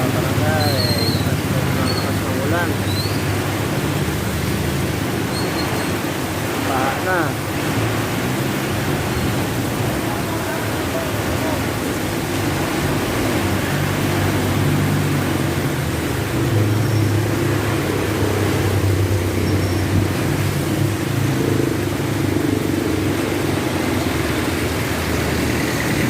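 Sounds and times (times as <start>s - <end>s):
heavy rain hissing: 0.0s - 26.0s
vehicle engine humming: 0.0s - 26.0s.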